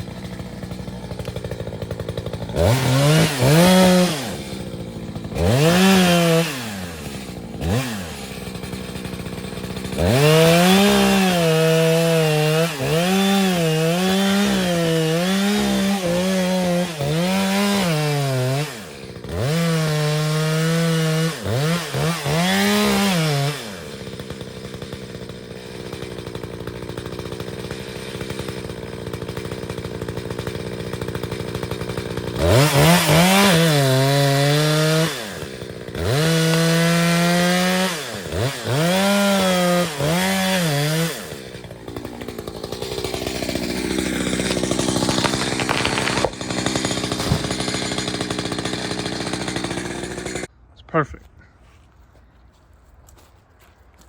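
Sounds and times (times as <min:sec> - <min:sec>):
chainsaw cutting wood: 0:00.0 - 0:50.5.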